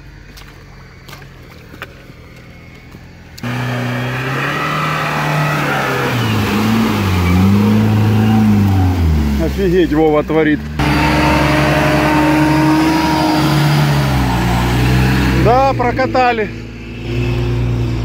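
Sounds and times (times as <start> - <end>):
car engine working hard: 0.0 - 18.0
water surging around wheels: 0.0 - 18.0.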